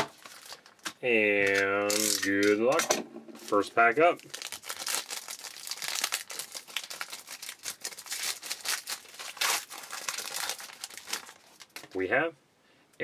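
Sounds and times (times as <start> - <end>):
foil wrapper crinkling and tearing: 0.0 - 2.8, 3.4 - 12.0.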